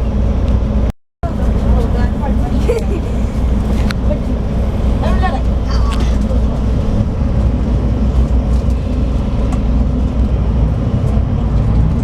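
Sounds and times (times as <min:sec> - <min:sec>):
diesel engine rumble: 0:00.0 - 0:12.0
road noise: 0:00.0 - 0:12.0.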